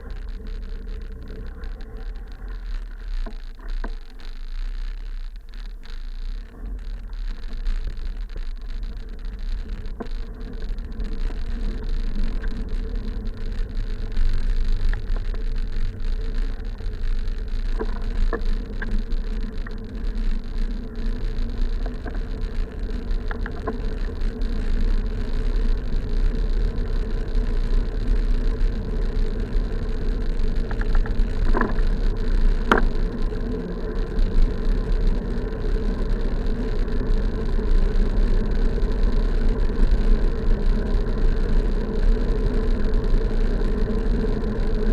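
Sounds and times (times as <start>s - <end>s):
faint clicks: 0.0s - 44.9s
steady buzzing hum: 0.0s - 44.9s
wind rumbling on microphone: 0.0s - 44.9s.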